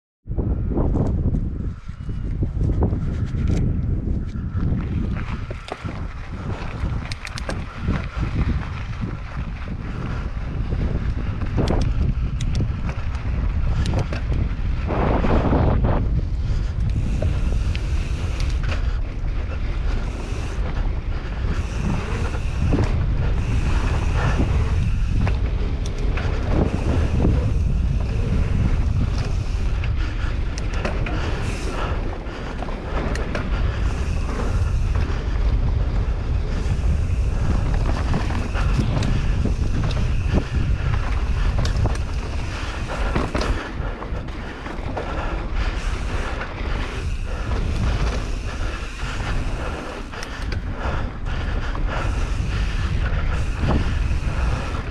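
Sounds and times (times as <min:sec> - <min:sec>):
wind rushing over microphone: 0:00.2 - 0:54.9
low rumble of bike on dirt: 0:00.3 - 0:54.9
bike clicks and rattles: 0:00.4 - 0:54.9.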